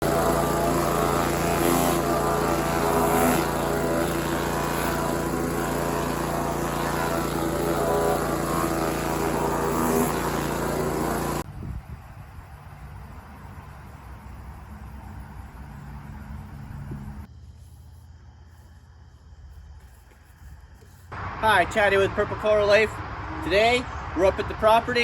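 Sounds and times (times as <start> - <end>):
pressure washer engine running: 0.0 - 11.5, 12.3 - 17.3, 21.0 - 25.0.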